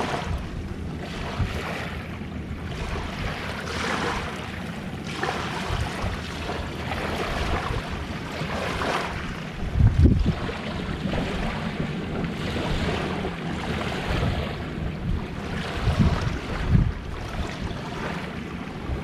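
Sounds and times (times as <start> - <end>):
small waves washing ashore: 0.0 - 19.0
wind rumbling on microphone: 0.0 - 19.0.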